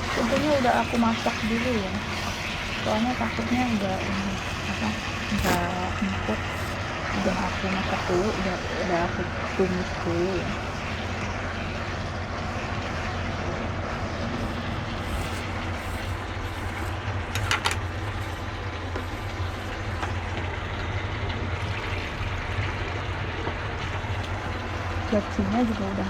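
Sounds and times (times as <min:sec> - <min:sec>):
kitchen cooking roar: 0:00.0 - 0:26.0.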